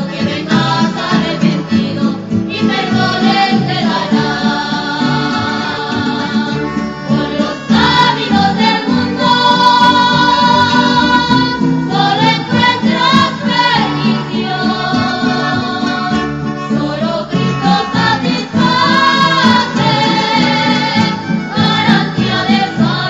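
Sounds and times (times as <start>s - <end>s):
hymn singing with accompaniment: 0.0s - 23.0s.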